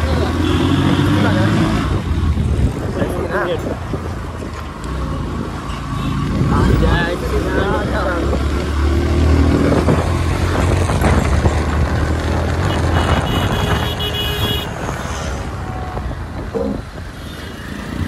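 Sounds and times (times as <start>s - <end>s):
surrounding traffic: 0.0s - 18.0s
wind rumble on microphone: 1.8s - 5.6s, 6.3s - 17.2s.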